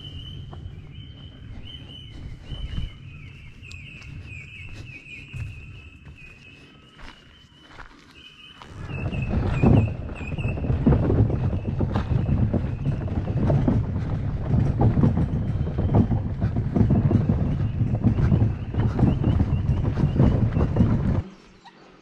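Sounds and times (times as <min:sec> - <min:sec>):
wind rumble on microphone: 0:00.0 - 0:07.1, 0:08.6 - 0:21.4
footsteps on dirt trail: 0:00.0 - 0:21.3.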